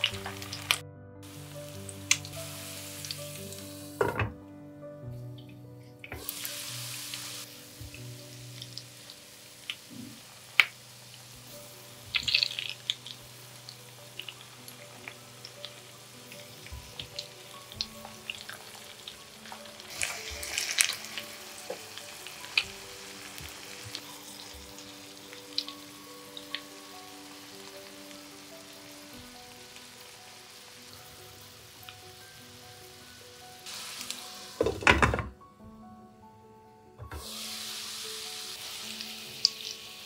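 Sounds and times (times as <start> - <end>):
patties sizzling in oil: 0.0 - 4.2, 6.2 - 35.1, 37.2 - 40.0
soft background music: 0.0 - 40.0.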